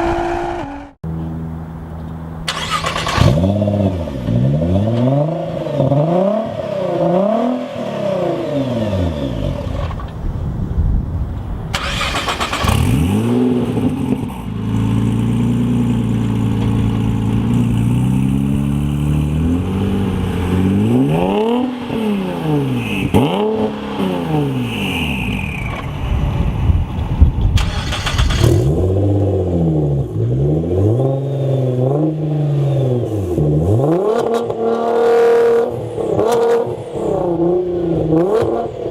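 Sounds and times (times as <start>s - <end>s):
car engines revving: 0.0s - 10.2s, 11.7s - 38.9s.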